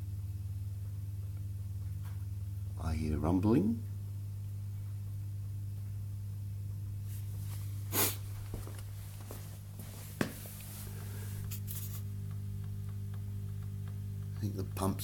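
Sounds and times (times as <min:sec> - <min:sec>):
dishwasher pump humming: 0:00.0 - 0:15.0.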